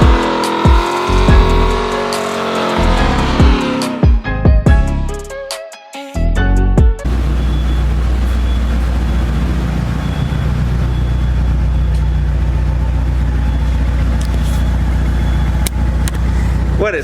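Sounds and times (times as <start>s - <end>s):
car engine running steadily: 0.0s - 4.9s, 7.1s - 17.0s.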